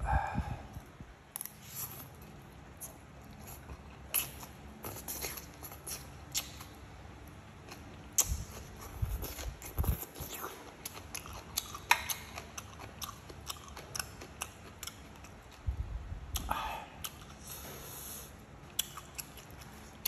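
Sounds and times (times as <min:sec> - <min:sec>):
person chewing food: 0:01.4 - 0:15.7, 0:16.3 - 0:20.0.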